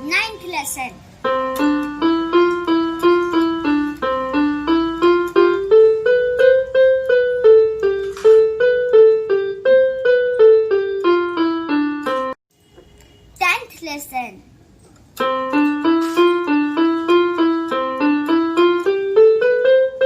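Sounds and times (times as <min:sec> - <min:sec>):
electronic keyboard melody: 0:00.0 - 0:12.4, 0:15.2 - 0:20.0.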